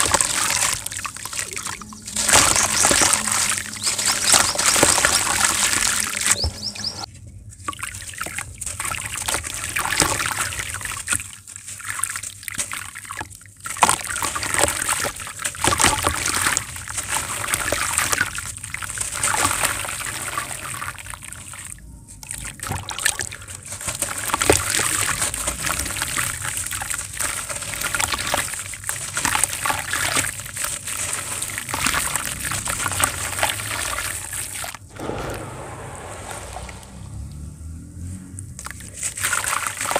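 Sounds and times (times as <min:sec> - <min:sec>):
hands sloshing wet sand in water: 0:00.0 - 0:07.1, 0:07.8 - 0:37.4, 0:38.0 - 0:39.9
sand trickling and splashing into water: 0:00.0 - 0:39.9.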